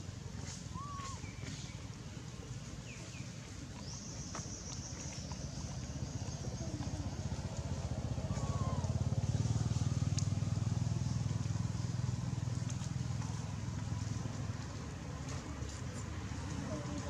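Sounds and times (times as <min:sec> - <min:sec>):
passing vehicle engine hum: 0:01.9 - 0:17.0.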